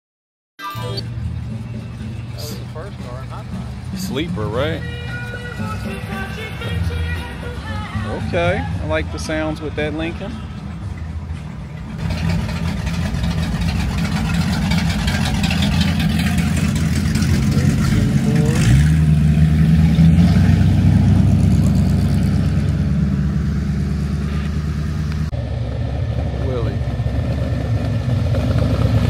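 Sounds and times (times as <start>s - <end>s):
car engine rumbling and revving: 0.8s - 29.0s.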